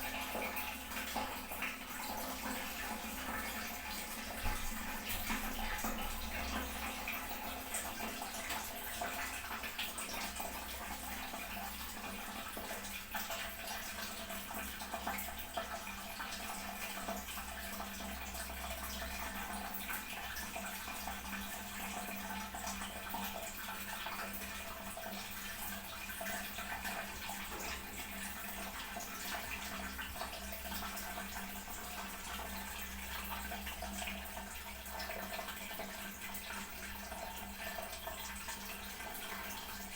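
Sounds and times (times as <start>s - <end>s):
toilet cistern refilling: 0.0s - 39.9s.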